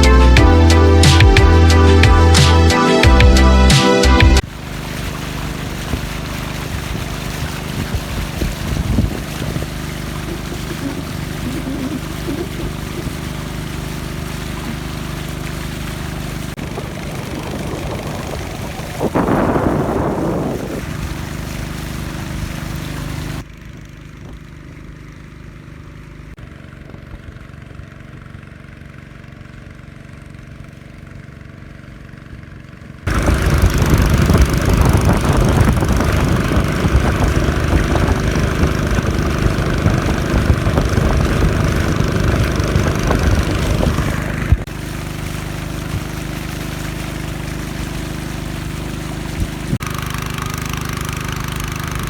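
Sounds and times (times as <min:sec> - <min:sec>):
small boat motor running: 0:00.0 - 0:52.0.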